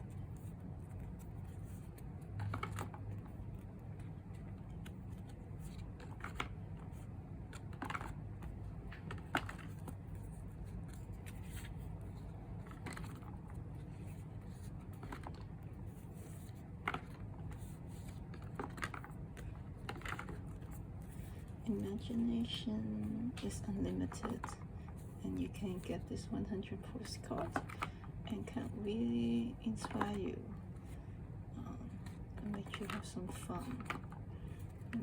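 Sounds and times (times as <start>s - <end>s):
paper clicks and rustles: 0.0s - 25.8s, 31.8s - 35.0s
low steady hum: 0.0s - 35.0s.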